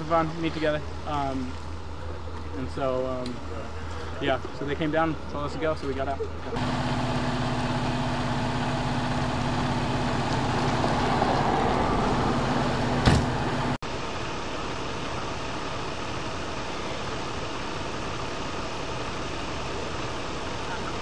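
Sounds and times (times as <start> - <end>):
fire engine idling: 0.0 - 21.0
idling vehicles rumble: 0.0 - 21.0.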